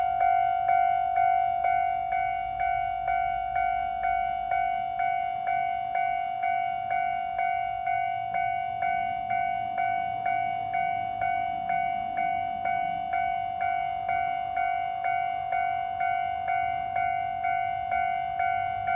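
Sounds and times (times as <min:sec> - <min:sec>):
level crossing alarm bell: 0:00.0 - 0:18.9.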